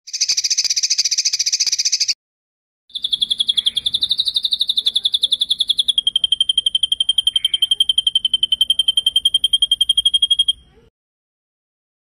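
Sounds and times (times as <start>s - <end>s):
evenly pulsing bird trill: 0.1s - 2.2s, 2.9s - 10.9s
fast buzzy bird trill: 0.1s - 2.2s, 2.9s - 10.8s.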